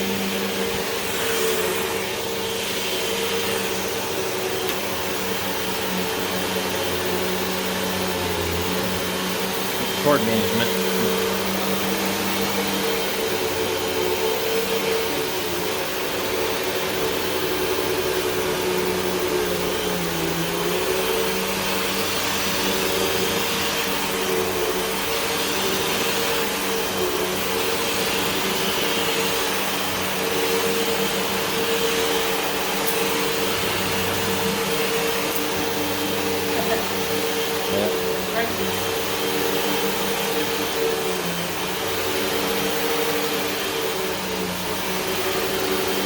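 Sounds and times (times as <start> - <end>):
upright vacuum cleaner running: 0.0 - 46.0.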